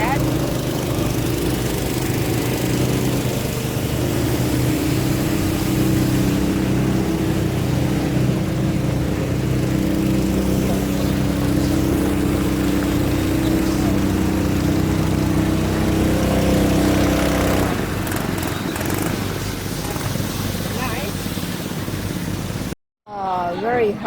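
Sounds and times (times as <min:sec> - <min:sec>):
small engine running: 0:00.0 - 0:22.7.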